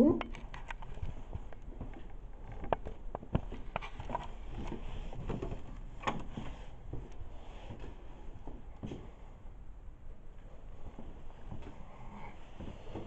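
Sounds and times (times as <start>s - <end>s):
footsteps: 0.3s - 9.2s, 10.7s - 13.0s.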